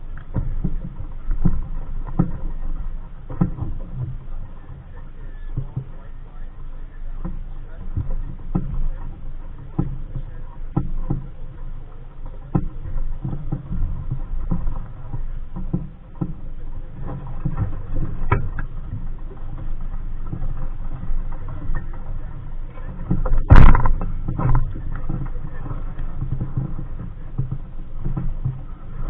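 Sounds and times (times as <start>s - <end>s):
low steady rumble: 0.0s - 29.0s
water slapping against hull: 0.0s - 29.0s.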